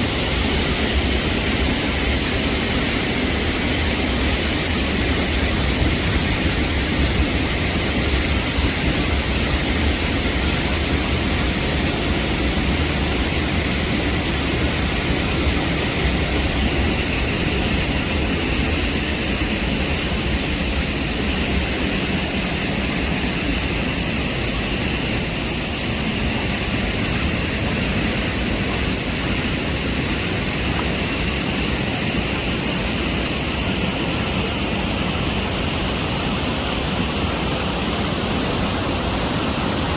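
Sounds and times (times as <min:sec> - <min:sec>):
fast-flowing water roar: 0:00.0 - 0:39.9.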